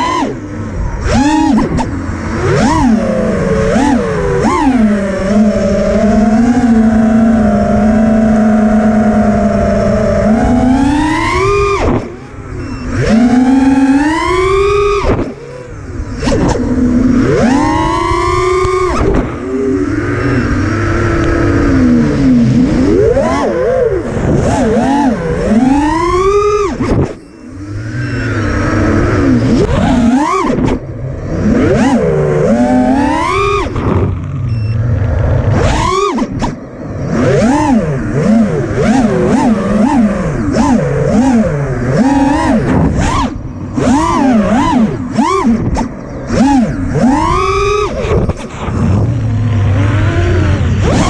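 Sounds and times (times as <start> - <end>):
drone motors whining: 0.0 - 51.0.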